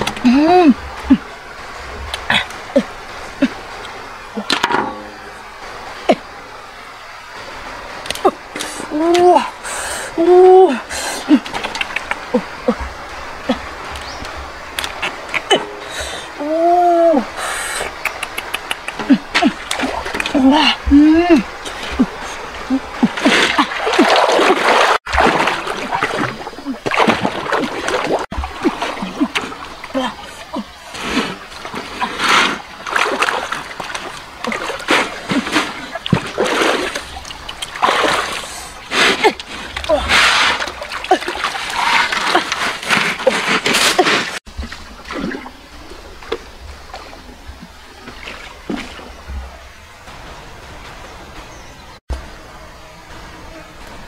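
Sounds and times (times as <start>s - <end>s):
water splashing from swimming: 0.0s - 50.1s.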